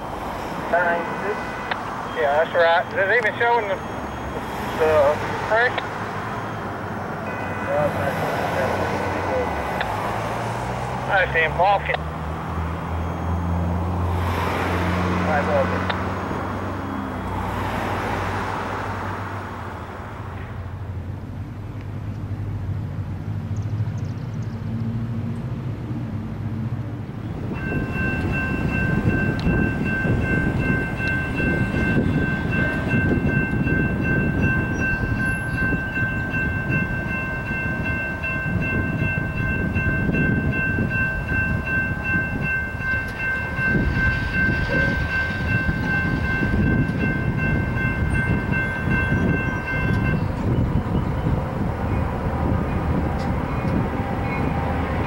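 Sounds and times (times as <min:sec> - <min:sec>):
railroad crossing bell ringing: 0:00.0 - 0:10.4, 0:11.0 - 0:12.0, 0:12.7 - 0:19.2, 0:27.4 - 0:55.0.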